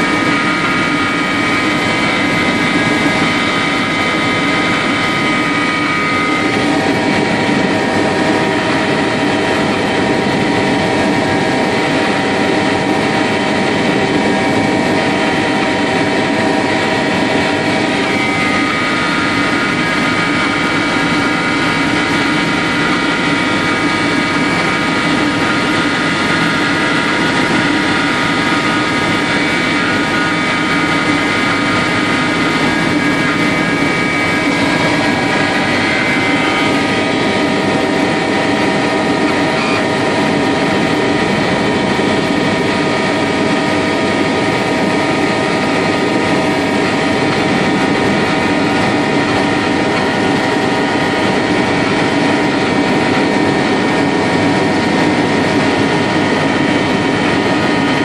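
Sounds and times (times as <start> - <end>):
helicopter engine and rotor drone: 0.0 - 58.0
whining tones: 0.0 - 58.0.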